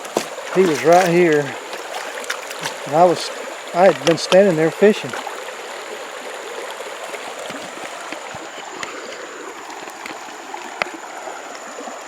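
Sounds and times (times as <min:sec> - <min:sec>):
faint splashes: 0:00.0 - 0:12.0
river water rushing over rocks: 0:00.0 - 0:12.0.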